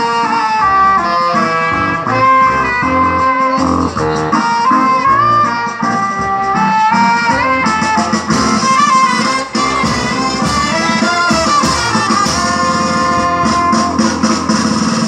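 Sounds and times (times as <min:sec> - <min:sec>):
band dance music: 0:00.0 - 0:15.0
wind instrument melody: 0:00.0 - 0:15.0.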